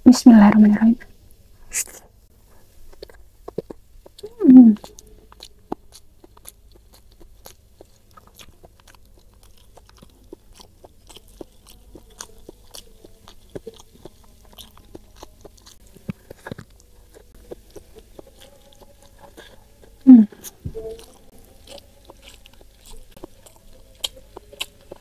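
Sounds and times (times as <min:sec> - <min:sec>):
close chewing with crunches: 0:02.4 - 0:25.0.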